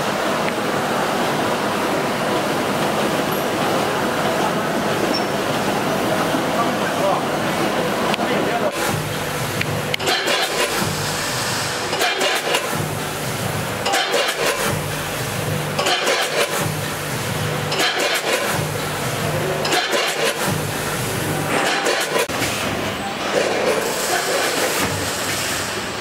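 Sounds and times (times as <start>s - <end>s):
vibratory feed pans humming: 0.0s - 26.0s.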